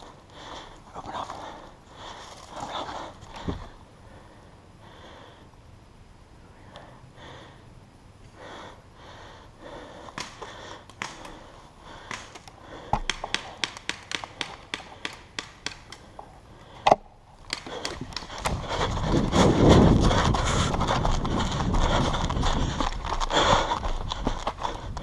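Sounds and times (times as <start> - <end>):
breathing and sniffing: 0.0 - 5.5, 6.6 - 7.7, 8.3 - 13.6, 14.7 - 25.0.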